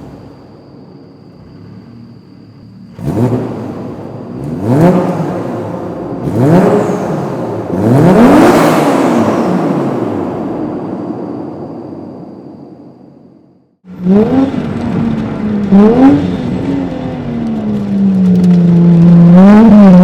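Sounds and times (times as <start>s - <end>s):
car engine accelerating through gears: 1.4s - 12.1s, 13.9s - 20.0s.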